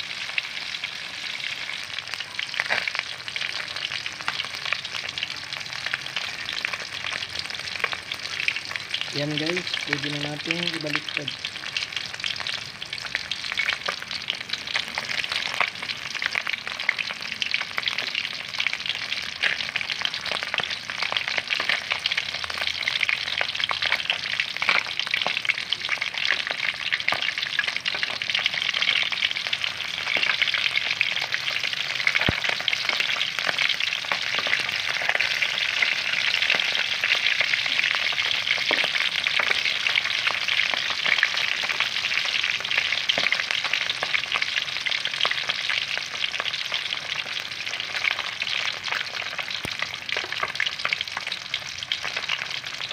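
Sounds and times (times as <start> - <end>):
fish frying in hot oil: 0.0 - 52.9.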